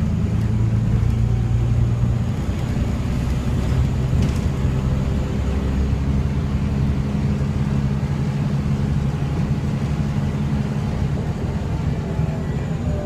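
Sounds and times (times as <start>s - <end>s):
bus diesel engine under load: 0.0s - 13.0s
road and body noise: 0.0s - 13.0s.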